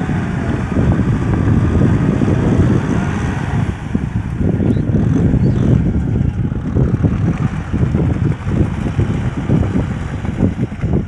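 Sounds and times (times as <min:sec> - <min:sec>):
tractor diesel engine running: 0:00.0 - 0:11.0
wind buffeting microphone: 0:00.0 - 0:11.0.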